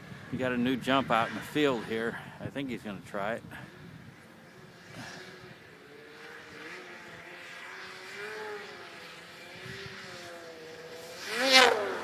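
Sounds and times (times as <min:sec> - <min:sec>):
faint snowmobile engine running: 0:00.0 - 0:12.0.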